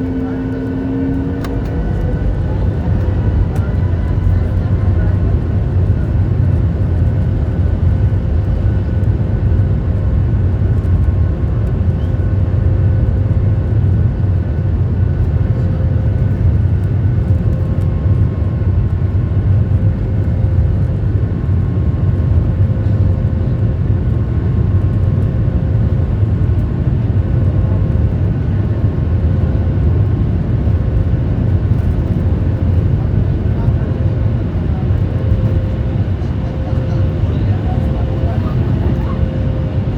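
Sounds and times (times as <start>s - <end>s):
aircraft engine rumble: 0.0s - 39.9s.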